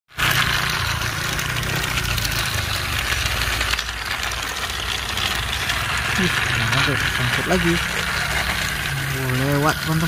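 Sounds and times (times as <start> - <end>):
toy train motors whirring: 0.1 - 10.0.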